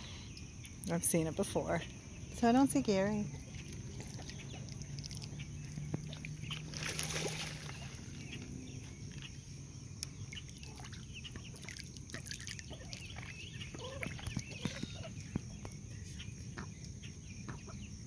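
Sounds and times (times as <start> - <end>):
low steady hum: 0.0 - 18.0
water lapping against dock: 0.9 - 9.4, 10.2 - 16.8
ducklings chirping: 1.8 - 9.5, 10.1 - 18.0.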